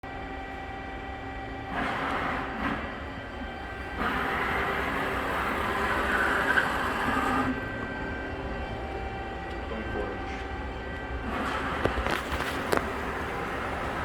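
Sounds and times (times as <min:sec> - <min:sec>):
hydraulic pump humming: 0:00.1 - 0:14.0.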